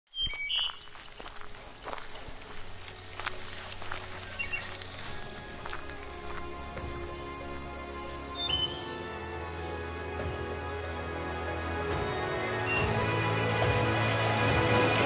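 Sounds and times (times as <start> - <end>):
crickets chirring: 0.1 - 15.0
footsteps through dry grass: 0.1 - 15.0.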